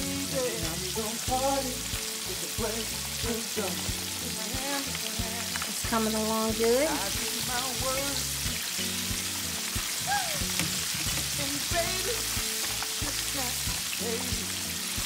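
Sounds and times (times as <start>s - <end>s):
background music: 0.0s - 15.0s
fish sizzling in hot oil: 0.0s - 15.0s.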